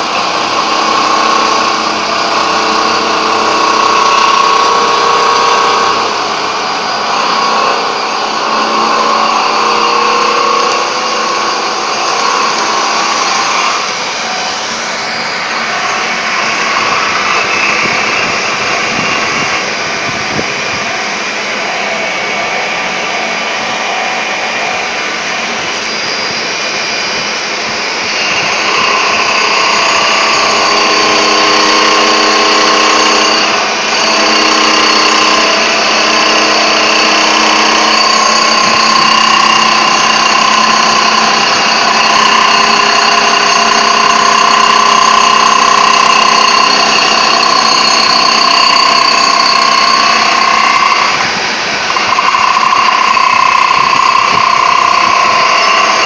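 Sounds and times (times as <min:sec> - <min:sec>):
power tool grinding marble: 0:00.0 - 0:20.8, 0:28.0 - 0:56.0.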